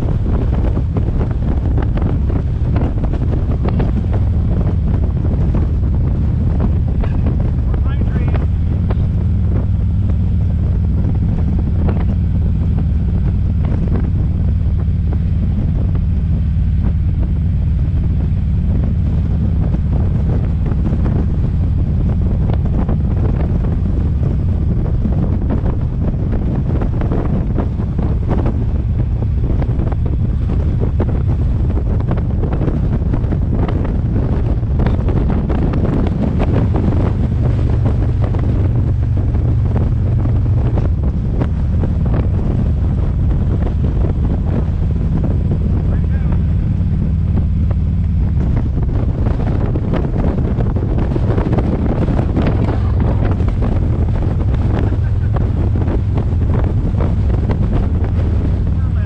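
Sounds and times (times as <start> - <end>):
car road noise: 0.0 - 59.0
wind buffeting microphone: 0.0 - 59.0.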